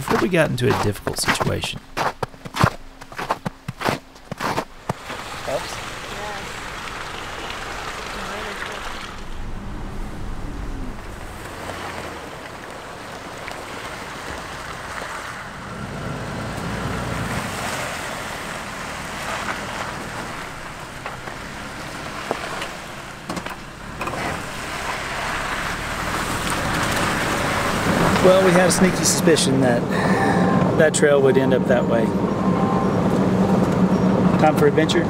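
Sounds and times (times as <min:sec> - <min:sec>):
tyres driving through slush: 0:00.0 - 0:35.0.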